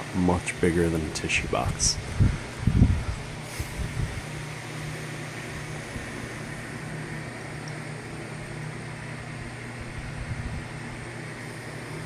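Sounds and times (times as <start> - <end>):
appliance hum and hiss: 0.0 - 12.0.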